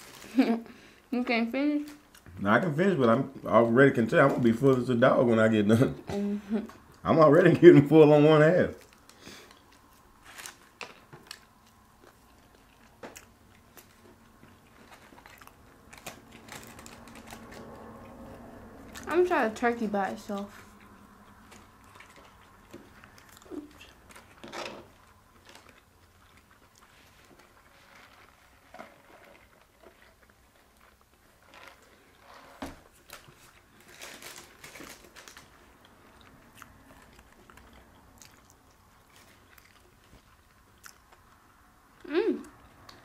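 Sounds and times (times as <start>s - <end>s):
chewing and crunching food: 1.8s - 5.5s, 8.5s - 43.0s.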